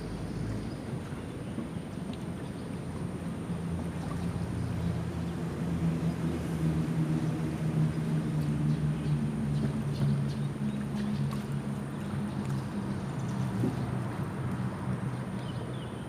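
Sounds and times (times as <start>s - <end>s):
low engine drone: 2.9s - 16.0s.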